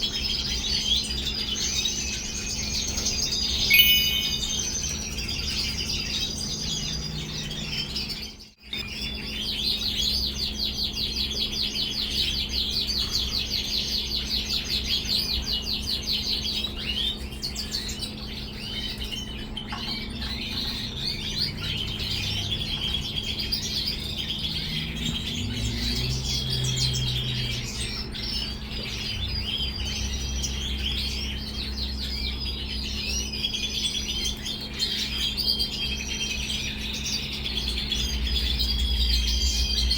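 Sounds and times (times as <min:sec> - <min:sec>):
finches twittering and trilling: 0:00.0 - 0:39.9.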